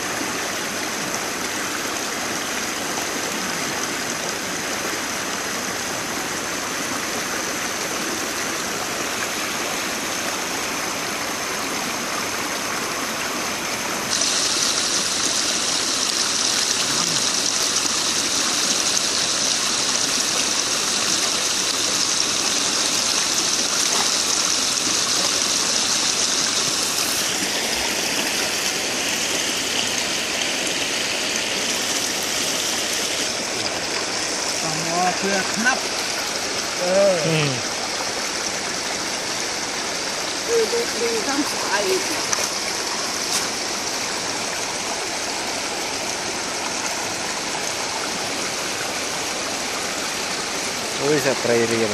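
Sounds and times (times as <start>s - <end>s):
water rushing over weir: 0.0s - 51.9s.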